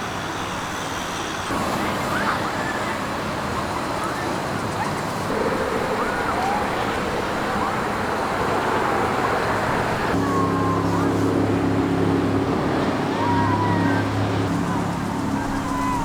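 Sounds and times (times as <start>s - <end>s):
low engine hum: 1.5s - 16.0s.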